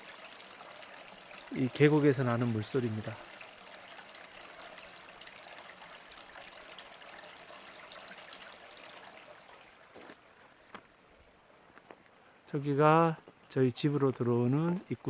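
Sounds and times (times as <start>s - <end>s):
stream flowing water hiss: 0.0s - 15.0s.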